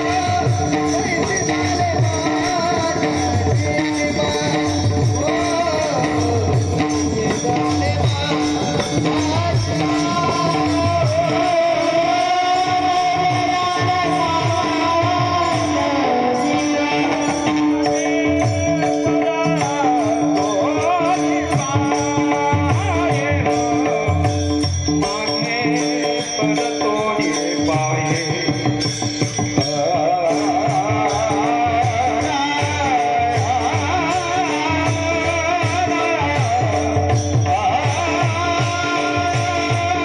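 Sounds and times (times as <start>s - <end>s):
man singing devotional song: 0.0s - 40.0s
small jingling cymbals: 0.0s - 40.0s
steady drum beat: 0.0s - 40.0s.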